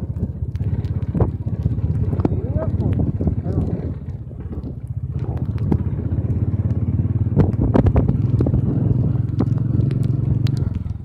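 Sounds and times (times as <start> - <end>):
motorcycle engine running: 0.0 - 11.0
motorcycle rattling on rocky road: 0.0 - 11.0.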